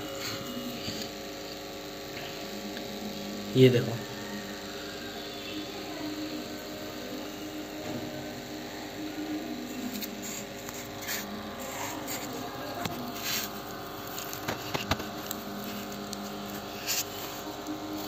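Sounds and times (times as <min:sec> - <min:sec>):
motor hum: 0:00.0 - 0:18.0.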